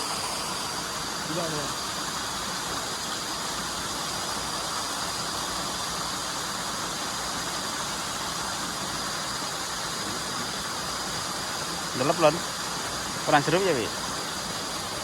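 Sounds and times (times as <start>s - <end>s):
steady rushing noise: 0.0s - 6.1s, 7.9s - 15.0s.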